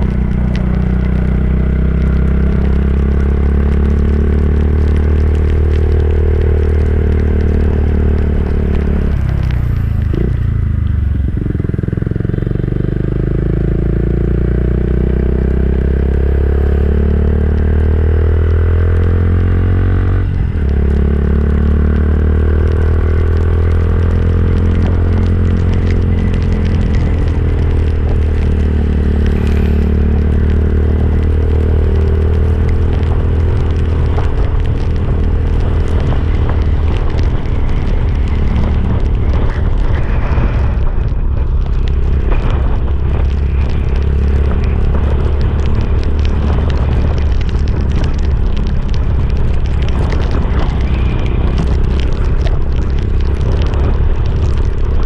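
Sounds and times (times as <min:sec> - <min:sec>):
motorcycle engine running: 0:00.0 - 0:18.2, 0:19.0 - 0:55.0
wind rumble on microphone: 0:00.0 - 0:55.0.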